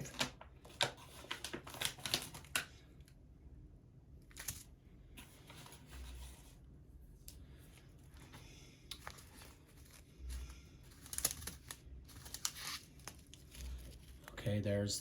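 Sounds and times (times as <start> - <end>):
small clicks and rustles of packaging: 0.0 - 3.2, 4.2 - 6.6, 7.2 - 14.6.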